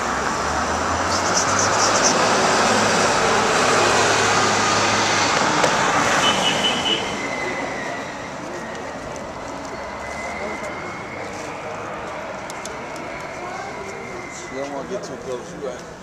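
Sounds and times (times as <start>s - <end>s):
vehicle engine passing by: 0.0s - 14.5s.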